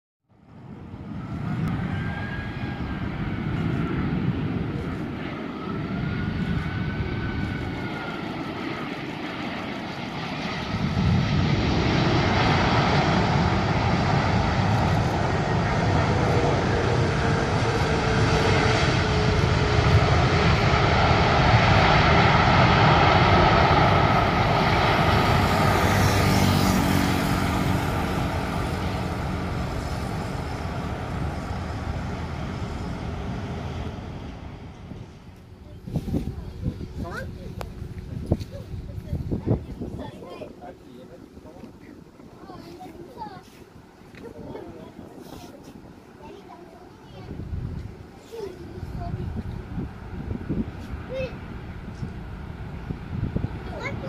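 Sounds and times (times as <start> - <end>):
jet engines roaring: 0.4 - 54.0.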